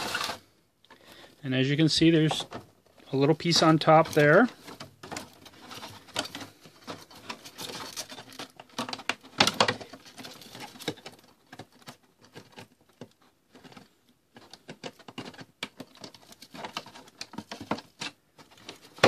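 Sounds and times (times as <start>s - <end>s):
plastic and wire crinkling: 0.0s - 19.0s.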